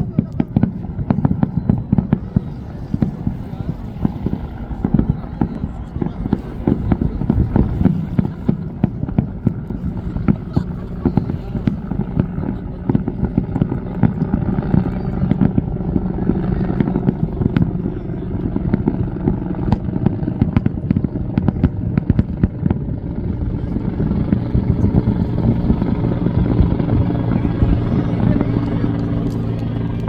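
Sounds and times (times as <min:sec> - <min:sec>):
fireworks bangs and crackles: 0:00.0 - 0:30.0
low rumble: 0:00.0 - 0:30.0.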